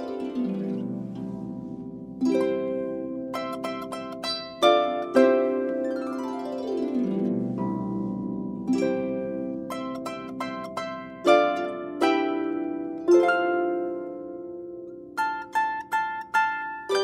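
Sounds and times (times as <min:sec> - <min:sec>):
harp plucked notes and chords: 0:00.0 - 0:17.0.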